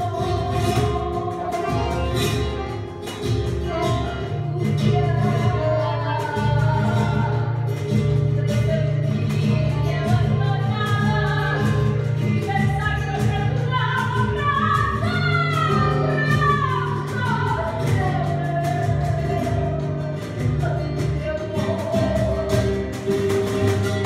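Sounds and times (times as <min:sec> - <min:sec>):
acoustic guitar: 0:00.0 - 0:24.0.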